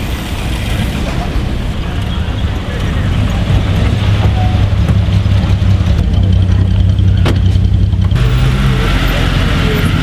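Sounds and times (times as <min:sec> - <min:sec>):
cars driving slowly past: 0:00.0 - 0:10.0.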